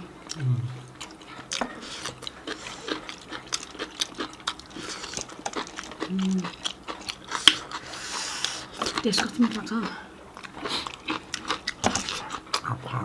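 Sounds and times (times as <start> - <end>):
wet chewing and mouth clicks: 0.2 - 12.8.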